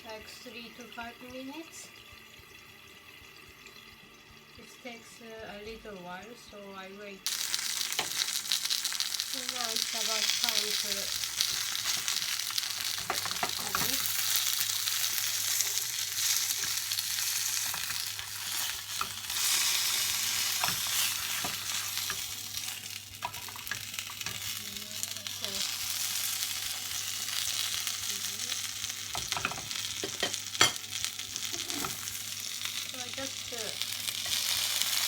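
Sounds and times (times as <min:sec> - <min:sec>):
dumplings sizzling in a pan: 0:00.0 - 0:35.0.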